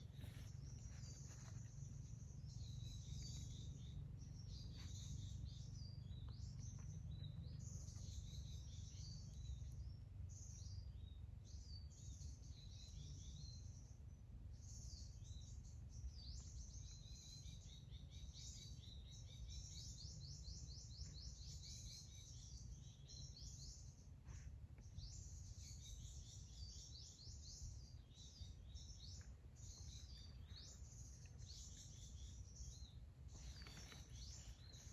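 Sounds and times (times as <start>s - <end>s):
birds chirping and singing: 0.0s - 14.0s, 14.6s - 34.9s.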